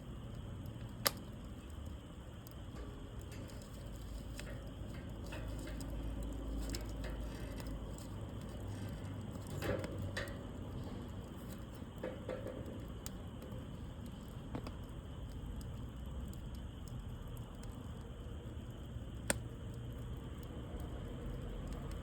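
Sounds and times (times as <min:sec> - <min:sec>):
low steady rumble: 0:00.0 - 0:22.0
wood fire crackling and popping: 0:00.0 - 0:22.0.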